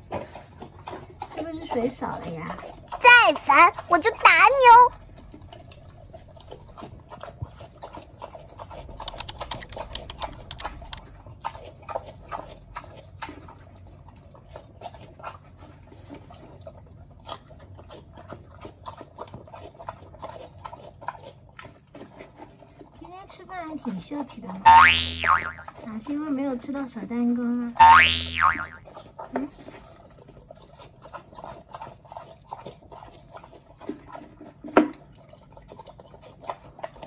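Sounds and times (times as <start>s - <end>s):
pig chewing: 0.0s - 37.0s.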